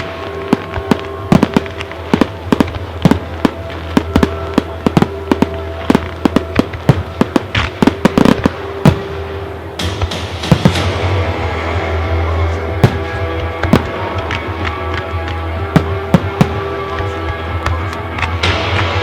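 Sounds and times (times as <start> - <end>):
fireworks bangs: 0.0 - 19.0
music with held notes: 0.0 - 19.0.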